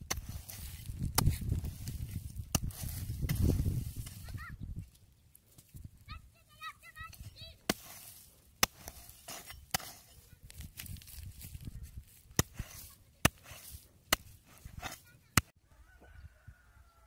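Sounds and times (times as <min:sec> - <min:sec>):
hoe striking dry soil: 0:00.0 - 0:05.8, 0:07.0 - 0:15.5
earth scraping and crumbling: 0:00.0 - 0:15.5.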